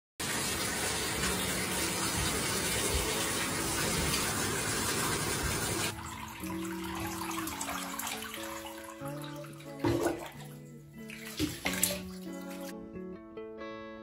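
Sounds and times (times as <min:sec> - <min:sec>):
bathtub tap water running: 0:00.2 - 0:12.7
background music with held notes: 0:00.2 - 0:14.0.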